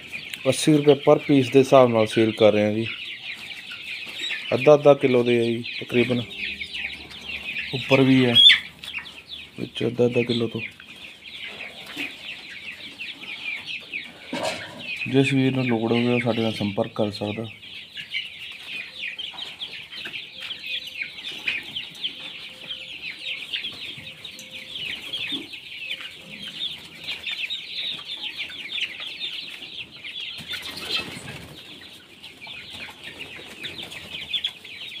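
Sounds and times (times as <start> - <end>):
chicks peeping and chirping: 0.0 - 35.0.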